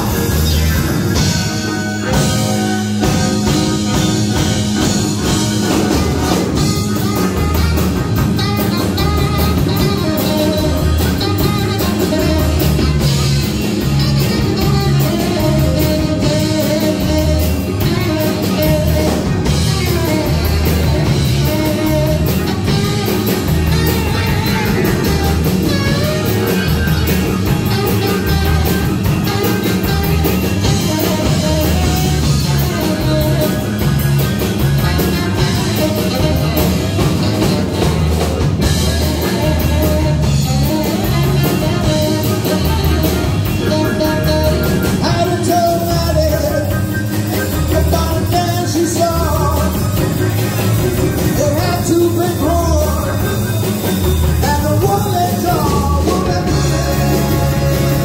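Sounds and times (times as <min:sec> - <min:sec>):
big band playing: 0:00.0 - 0:58.0.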